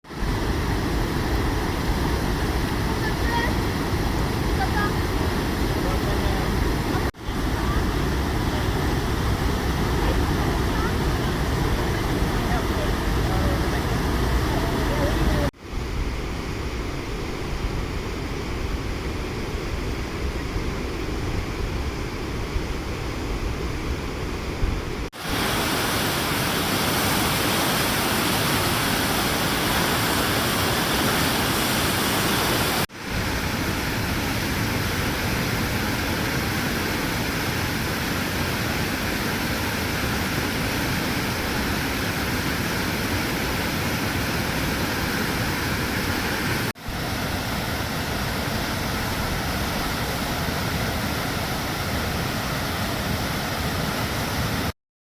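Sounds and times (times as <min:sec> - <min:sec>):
waterfall rushing: 0:00.1 - 0:54.7.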